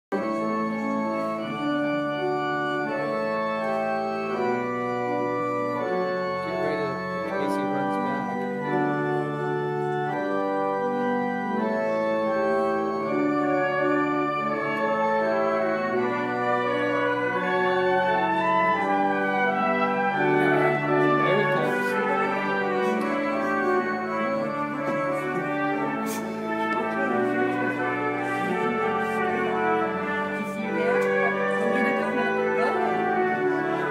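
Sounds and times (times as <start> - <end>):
organ playing slow chords: 0.1 - 33.9.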